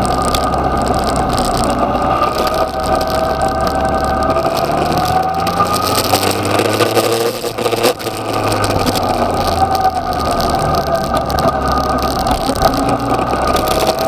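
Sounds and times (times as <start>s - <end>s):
motorcycle engine accelerating: 0.0s - 14.0s
wind noise on microphone: 0.0s - 14.0s.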